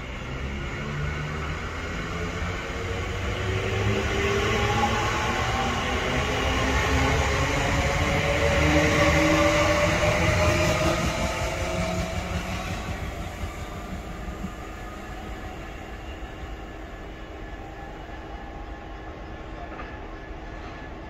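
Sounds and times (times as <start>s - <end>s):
train running noise with hum: 0.0s - 21.0s.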